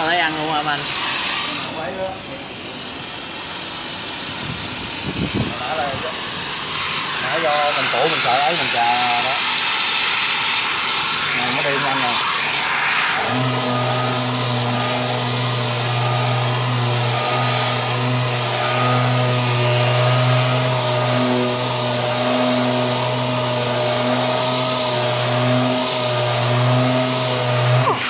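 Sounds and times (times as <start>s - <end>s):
orbital sander sanding: 4.2s - 28.0s.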